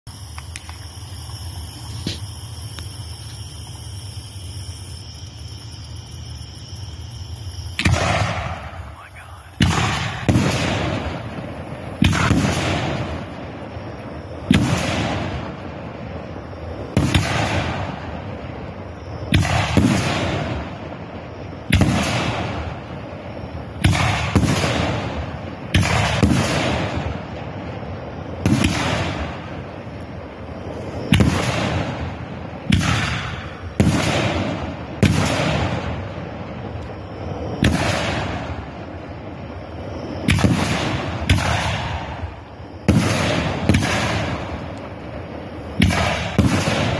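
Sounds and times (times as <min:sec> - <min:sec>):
firework bangs: 0:00.0 - 0:46.9.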